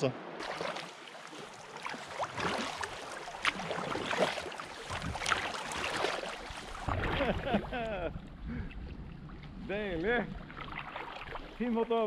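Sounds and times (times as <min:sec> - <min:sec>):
water lapping against kayak hull: 0:00.2 - 0:12.0.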